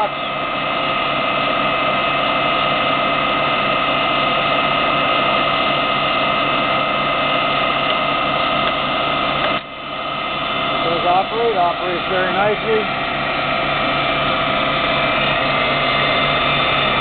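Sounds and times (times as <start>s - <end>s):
milling machine motor whine: 0.0s - 17.0s.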